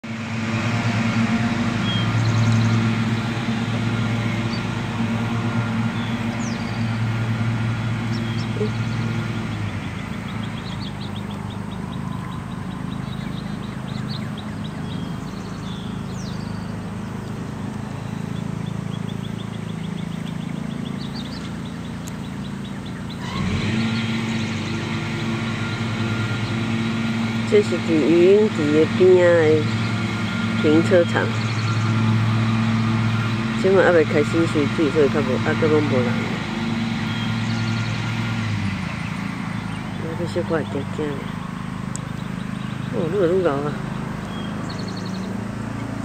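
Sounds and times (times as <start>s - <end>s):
birds chirping and trilling: 1.4s - 46.0s.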